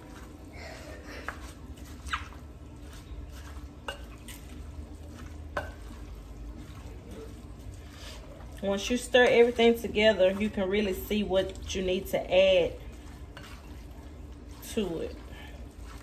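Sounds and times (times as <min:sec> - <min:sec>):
spoon stirring tuna salad: 0:00.0 - 0:16.0.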